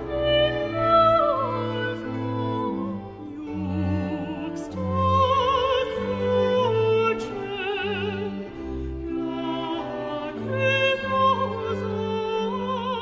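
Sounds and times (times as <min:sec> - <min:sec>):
operatic classical music: 0:00.0 - 0:13.0.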